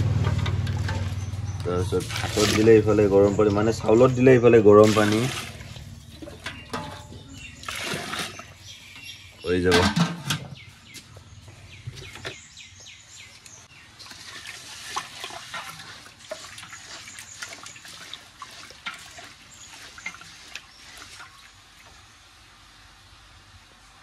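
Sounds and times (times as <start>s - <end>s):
rice boiling and bubbling: 0.0s - 10.2s, 13.8s - 24.0s.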